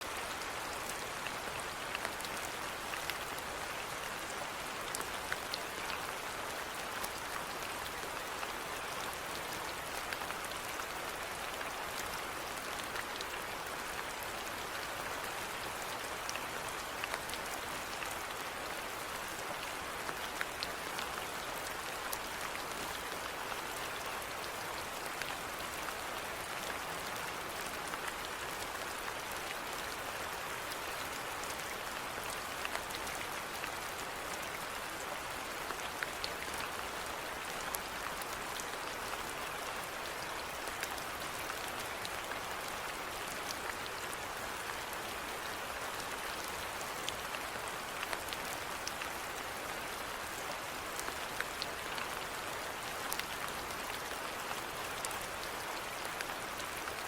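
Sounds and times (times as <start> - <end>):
rain pattering on hard surface: 0.0 - 57.0.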